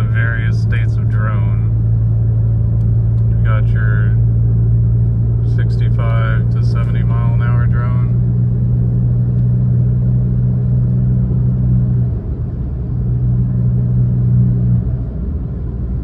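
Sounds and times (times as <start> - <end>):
car exhaust drone: 0.0 - 16.0
road noise: 0.0 - 16.0.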